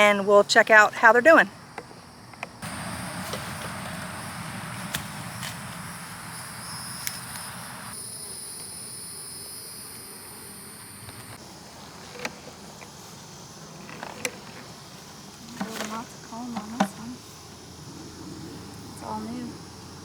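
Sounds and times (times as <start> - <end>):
high insect trill: 0.0 - 20.0
honeybees buzzing: 2.6 - 20.0.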